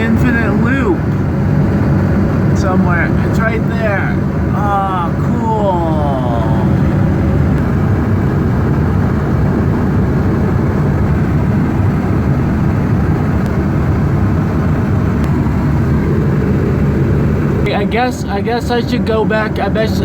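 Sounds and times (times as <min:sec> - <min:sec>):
airliner cabin engine rush: 0:00.0 - 0:20.0.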